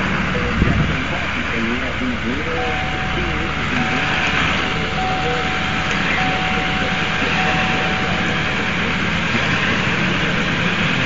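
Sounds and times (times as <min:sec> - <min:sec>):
thin steady whine: 0:00.0 - 0:11.0
vehicle engine and driving noise: 0:00.0 - 0:11.0.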